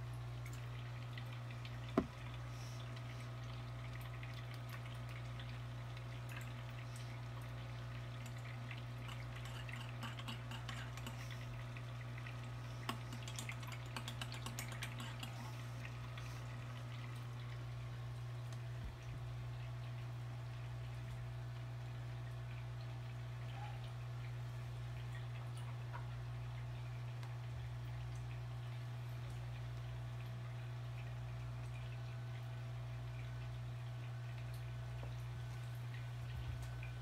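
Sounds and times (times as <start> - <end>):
light water sounds: 0.0 - 37.0
steady low hum: 0.0 - 37.0.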